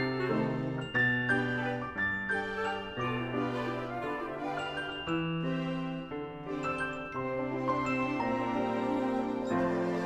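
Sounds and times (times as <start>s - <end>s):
instrumental music of held chords: 0.0s - 10.0s.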